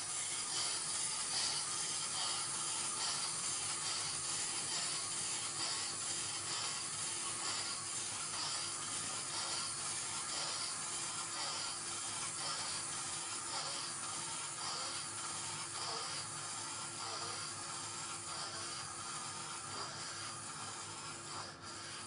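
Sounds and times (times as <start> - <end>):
clockwork toy whirring: 0.0 - 22.0.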